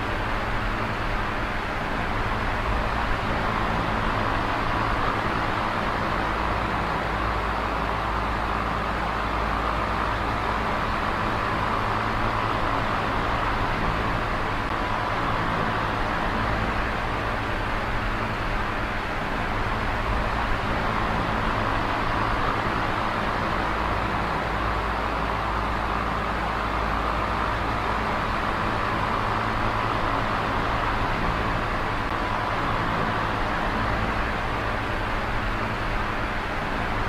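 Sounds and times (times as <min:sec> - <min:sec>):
electric fan air whoosh: 0:00.0 - 0:37.0
fan motor hum: 0:00.0 - 0:37.0.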